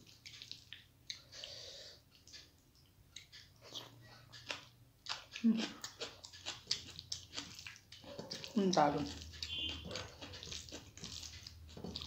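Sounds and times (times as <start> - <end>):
chewing: 0.0 - 12.0
fingers mixing food on plate: 0.0 - 12.0.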